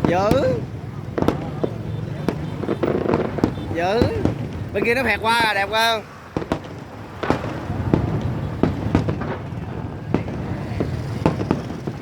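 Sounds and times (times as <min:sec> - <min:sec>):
fireworks bangs: 0:00.0 - 0:12.0
traffic rumble: 0:00.0 - 0:12.0.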